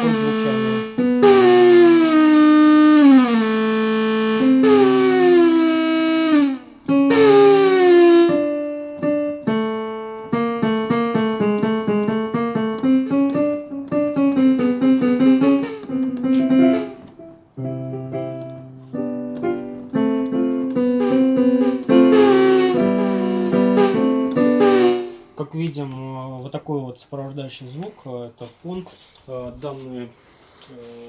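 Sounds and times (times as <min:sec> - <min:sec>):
digital piano notes: 0:00.0 - 0:25.4
unwanted background sound: 0:00.0 - 0:25.4.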